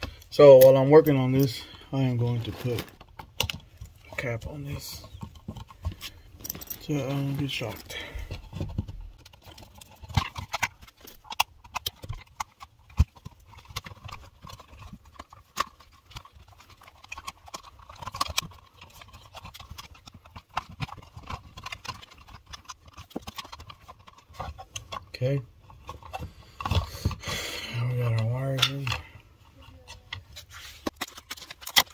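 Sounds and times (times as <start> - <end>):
gloved hands rustling: 0.0 - 31.9.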